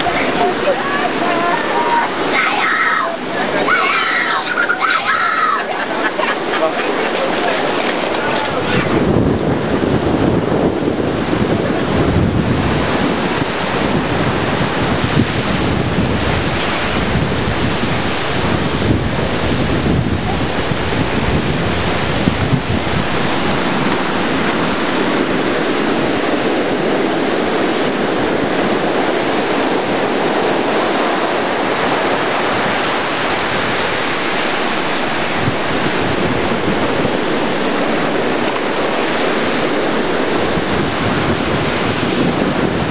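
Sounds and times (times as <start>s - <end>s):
surf crashing on beach: 0.0s - 42.9s
wind buffeting microphone: 0.0s - 42.9s.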